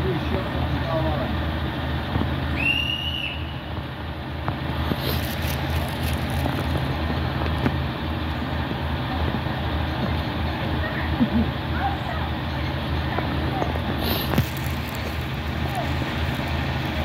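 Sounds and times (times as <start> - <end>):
diesel train engine droning: 0.0 - 17.0.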